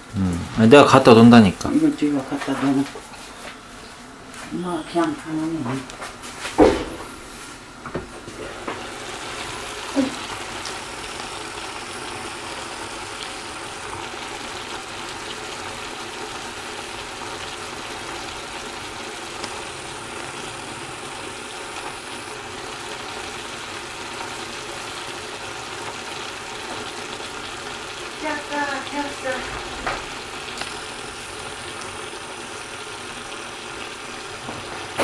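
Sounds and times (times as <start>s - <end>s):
sauce sizzling in pan: 0.0s - 5.2s, 5.8s - 35.0s.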